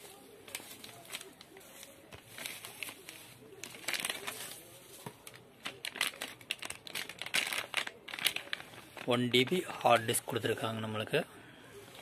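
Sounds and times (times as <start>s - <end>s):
foil bag crackling: 0.0s - 9.9s
bubble wrap crinkling: 0.0s - 10.6s.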